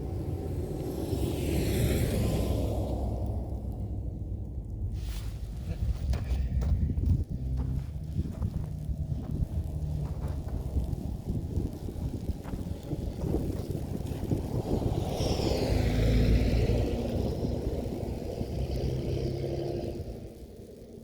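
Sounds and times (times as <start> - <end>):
vehicle passing by: 0.0 - 4.1, 7.2 - 20.8
wind buffeting microphone: 0.0 - 21.0.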